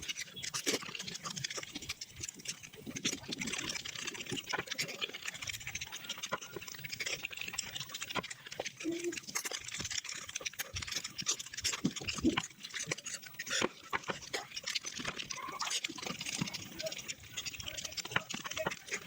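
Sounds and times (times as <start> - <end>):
wet chewing: 0.0 - 19.0.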